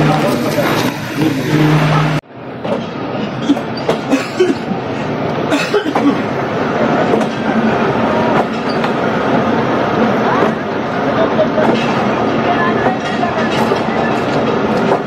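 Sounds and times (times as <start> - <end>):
train coaches rolling rumble: 0.0 - 15.0.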